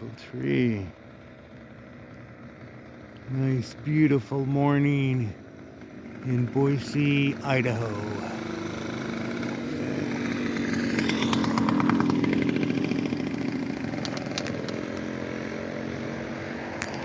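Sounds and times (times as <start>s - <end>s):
engine buzzing: 0.0s - 17.0s.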